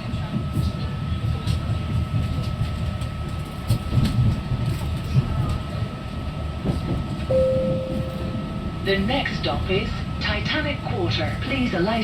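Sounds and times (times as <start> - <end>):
train running gear rumble: 0.0 - 12.0.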